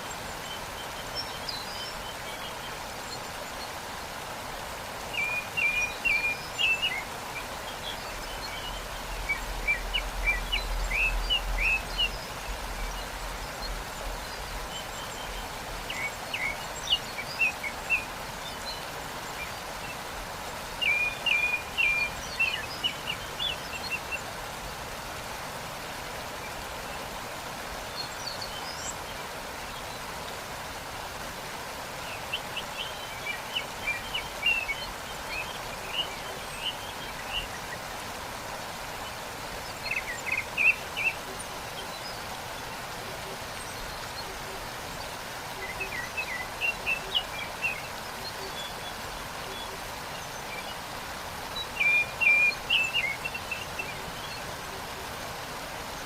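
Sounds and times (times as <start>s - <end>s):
songbirds chirping: 0.0s - 56.0s
waterfall rushing: 0.0s - 56.0s.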